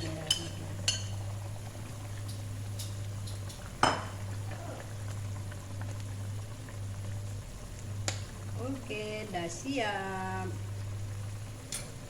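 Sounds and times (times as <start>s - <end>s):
sauce simmering and bubbling: 0.0s - 12.0s.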